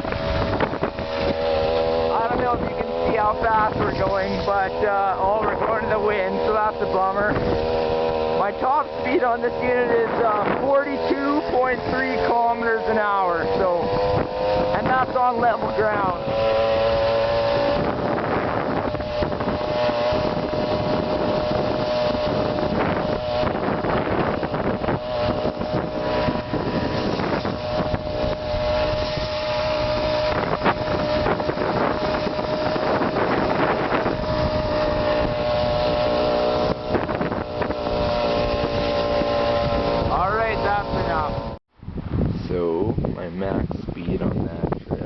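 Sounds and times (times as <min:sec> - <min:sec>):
two-stroke engine running: 0:00.0 - 0:41.6
wind noise on microphone: 0:00.0 - 0:45.0.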